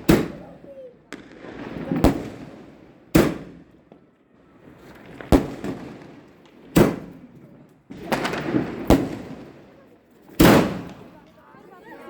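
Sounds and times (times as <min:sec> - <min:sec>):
firework shells bursting: 0:00.0 - 0:04.0, 0:04.7 - 0:11.4.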